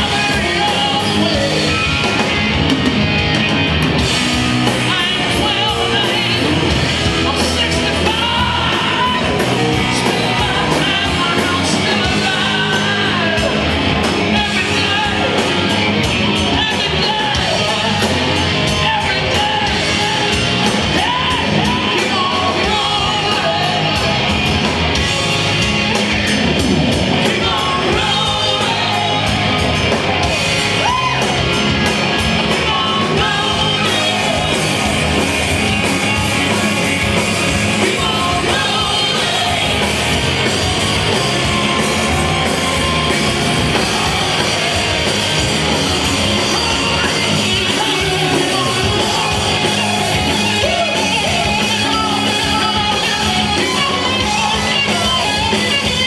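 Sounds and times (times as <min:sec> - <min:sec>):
person singing: 0:00.0 - 0:02.2, 0:04.6 - 0:24.4, 0:27.2 - 0:30.0, 0:32.5 - 0:56.0
live rock band playing: 0:00.0 - 0:56.0.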